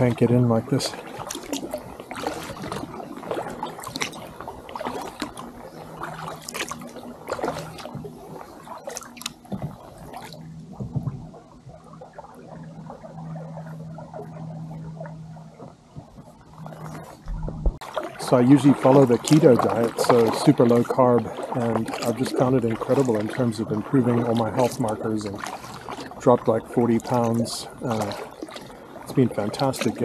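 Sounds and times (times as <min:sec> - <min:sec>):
paddle strokes in water: 0:00.0 - 0:30.0
soft trickling water: 0:00.0 - 0:30.0
water dripping and splashing: 0:00.0 - 0:30.0.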